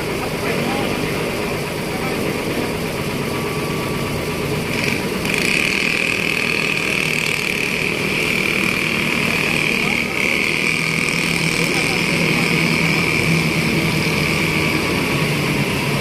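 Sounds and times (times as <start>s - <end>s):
diesel truck engine under load: 0.0s - 16.0s
high-pitched whine: 0.0s - 16.0s.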